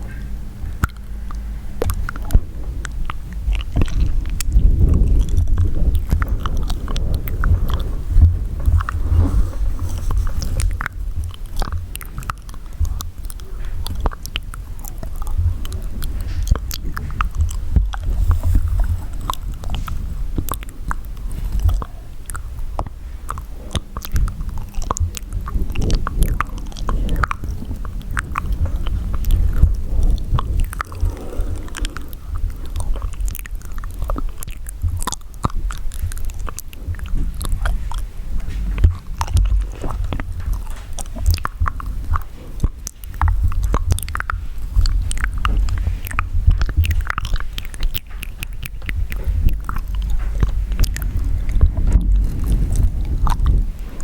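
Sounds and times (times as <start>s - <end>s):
low rumble: 0.0s - 54.0s
wet mouth clicks and smacks: 0.0s - 54.0s.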